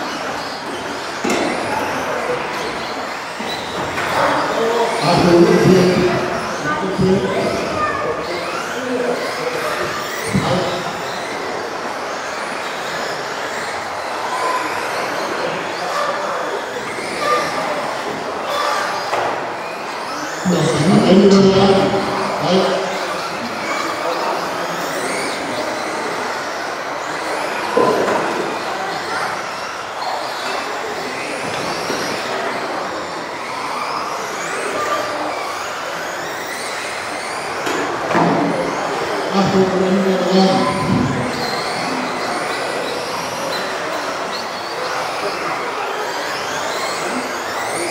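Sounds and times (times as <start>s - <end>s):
rc car motor whine: 0.0s - 47.9s.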